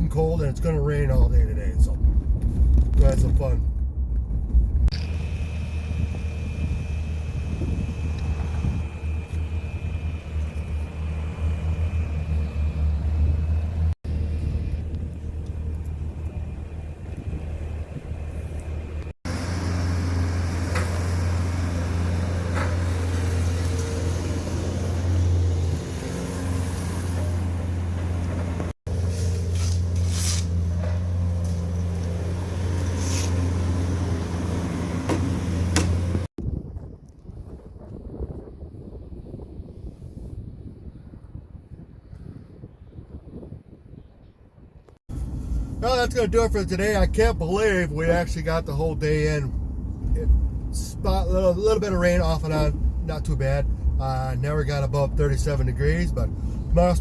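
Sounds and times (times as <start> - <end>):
low engine rumble: 0.0 - 57.0.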